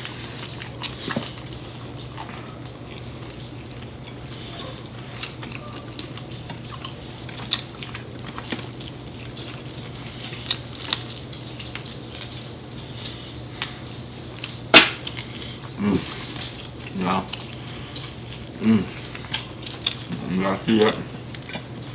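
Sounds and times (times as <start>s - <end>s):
chewing with wet smacks: 0.0s - 21.9s
steady low hum: 0.0s - 21.9s.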